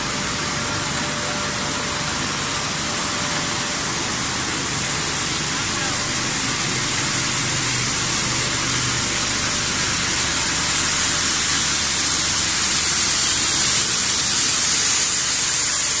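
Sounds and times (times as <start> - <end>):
machinery loud steady hiss: 0.0 - 16.0.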